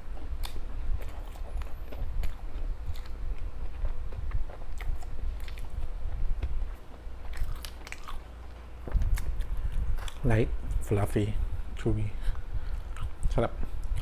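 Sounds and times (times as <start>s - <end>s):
person chewing: 0.1s - 10.3s, 12.6s - 14.0s.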